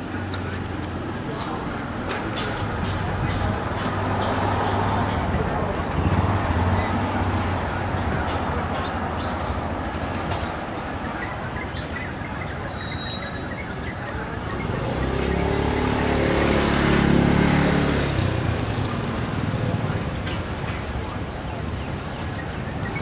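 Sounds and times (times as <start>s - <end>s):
vehicle engine hum passing: 0.0s - 11.6s, 14.0s - 23.0s
street traffic noise: 0.0s - 23.0s.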